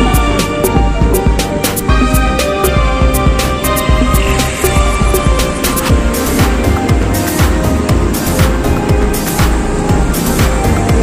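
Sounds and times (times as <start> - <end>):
music with sliding bass beat: 0.0 - 11.0.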